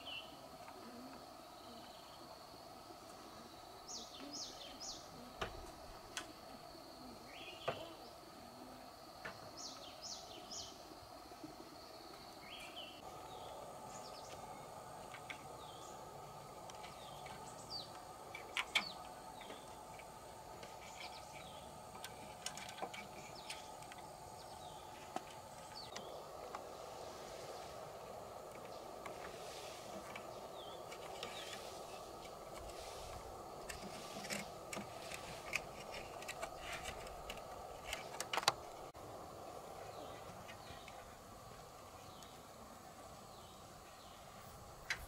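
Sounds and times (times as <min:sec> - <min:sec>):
birds chirping: 0:00.0 - 0:45.0
faint background hum: 0:00.0 - 0:45.0.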